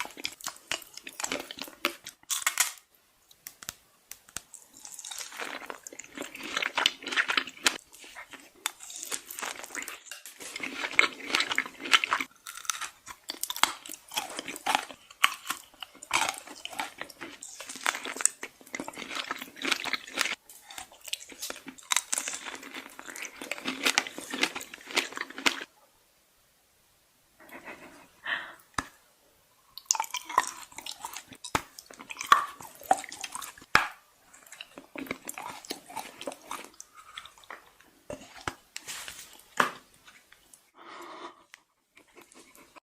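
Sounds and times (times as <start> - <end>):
crunching and chewing chocolate: 0.0 - 2.9, 4.4 - 25.7, 29.7 - 40.6, 41.5 - 42.8.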